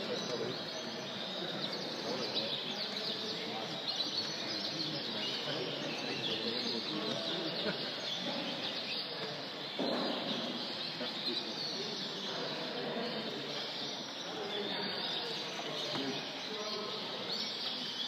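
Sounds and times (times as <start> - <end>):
canaries chirping: 0.0 - 18.0
murmur of voices: 0.0 - 18.0.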